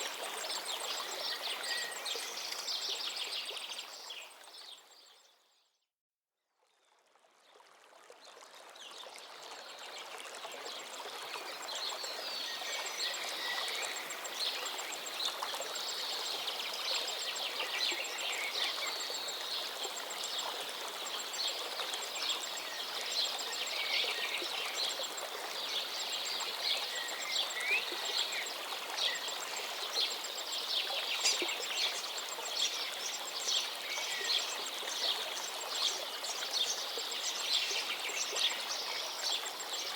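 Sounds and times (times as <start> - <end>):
river flowing: 0.0 - 4.9, 7.7 - 39.9.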